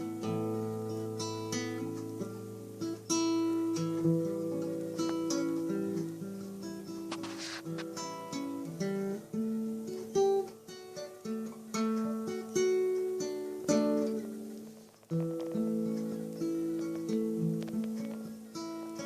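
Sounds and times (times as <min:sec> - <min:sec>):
acoustic guitar melody: 0:00.0 - 0:19.0.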